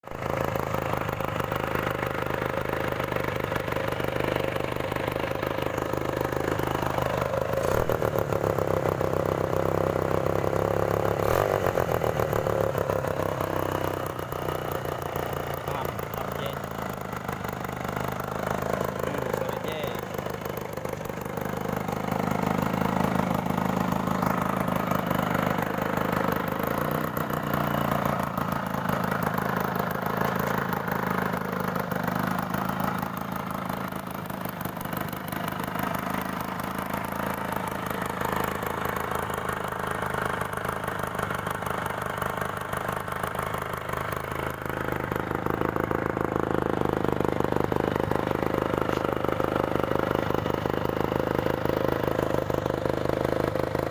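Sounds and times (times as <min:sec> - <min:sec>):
two-stroke motorcycle engine idling: 0:00.0 - 0:53.9.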